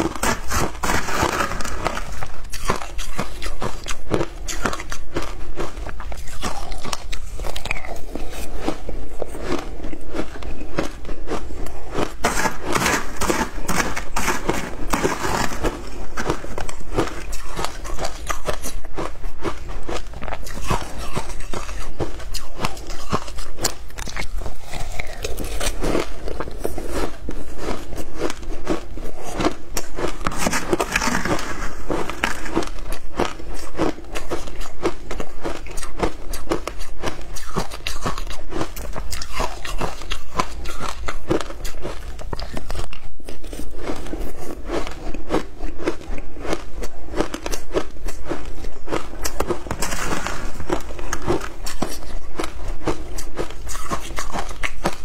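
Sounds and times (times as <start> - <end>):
shaved ice crunching in mouth: 0.0 - 55.0.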